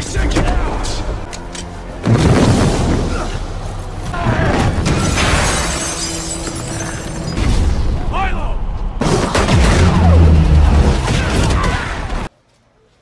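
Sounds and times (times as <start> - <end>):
film score music: 0.0 - 12.3.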